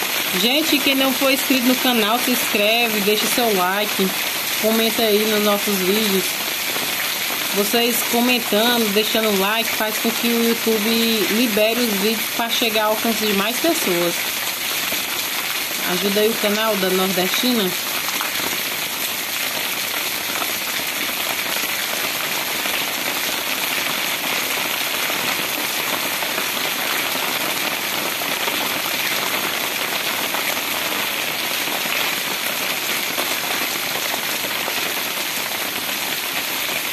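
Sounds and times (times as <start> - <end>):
rain on cobblestones: 0.0 - 36.9.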